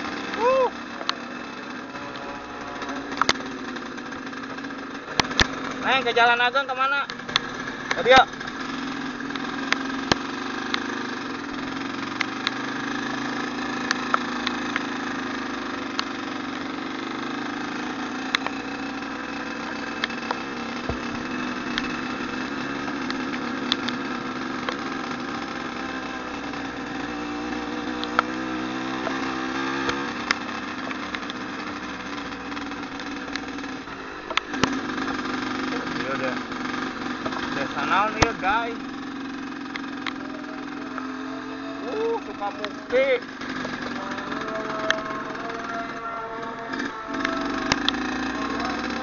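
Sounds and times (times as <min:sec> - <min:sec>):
motorcycle engine running: 0:00.0 - 0:49.0
sharp ticks and knocks: 0:00.1 - 0:06.1, 0:06.7 - 0:41.3, 0:42.1 - 0:45.5, 0:46.7 - 0:49.0.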